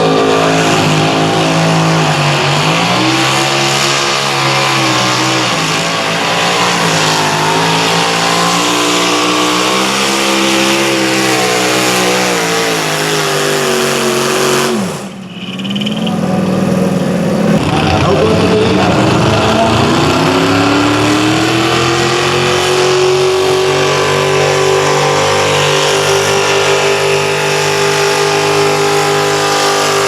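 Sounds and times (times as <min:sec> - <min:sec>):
engine rising in pitch: 0:00.0 - 0:30.0
tractor engine running at high revs: 0:00.0 - 0:30.0.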